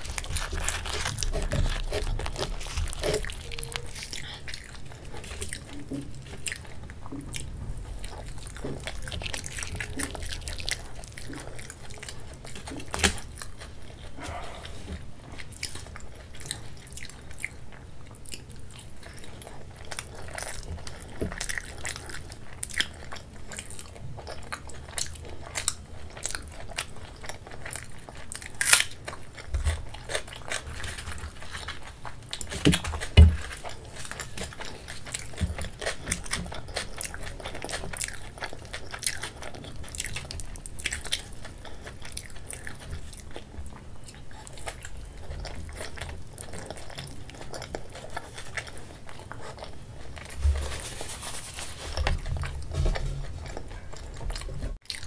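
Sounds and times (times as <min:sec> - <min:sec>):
chewing and biting fried bread: 0:00.0 - 0:55.0.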